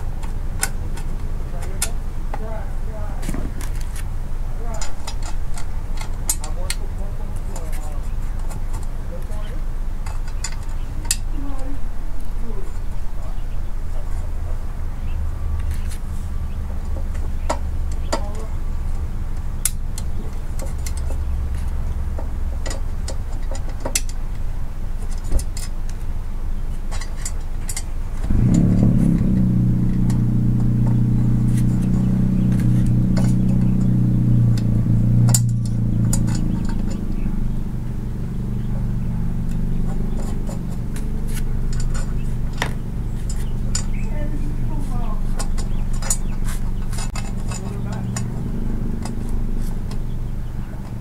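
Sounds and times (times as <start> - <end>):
vehicle engine humming: 0.0 - 51.0.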